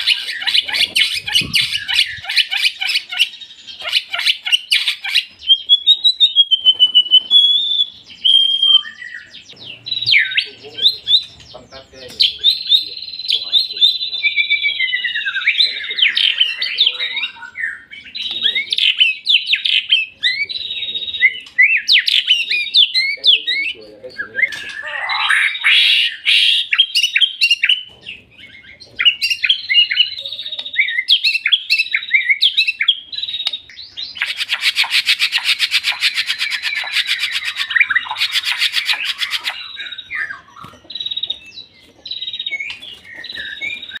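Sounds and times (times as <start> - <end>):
songbird singing whistled phrases: 0.0 - 11.6, 12.2 - 44.0.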